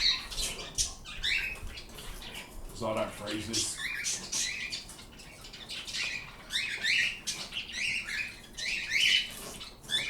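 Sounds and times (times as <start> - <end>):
birds chirping and squawking: 0.0 - 10.0.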